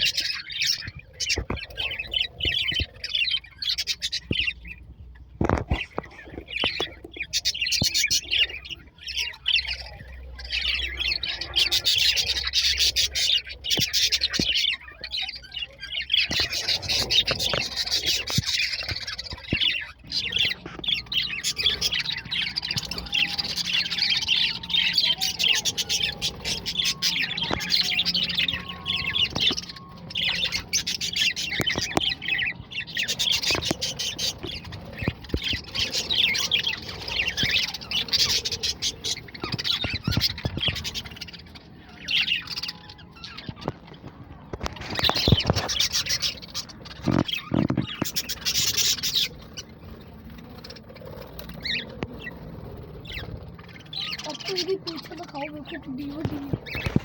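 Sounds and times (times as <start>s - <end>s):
budgerigars chattering and squawking: 0.0s - 57.0s.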